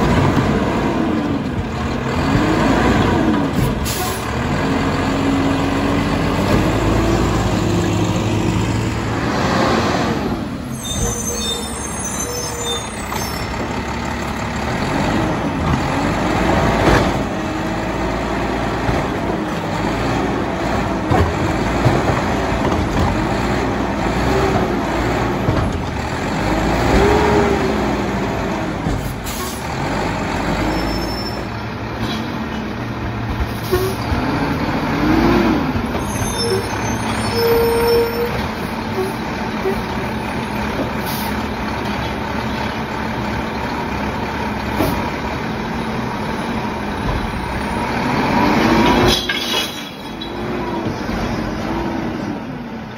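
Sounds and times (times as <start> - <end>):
garbage truck engine revving: 0.0 - 11.1, 13.5 - 49.4.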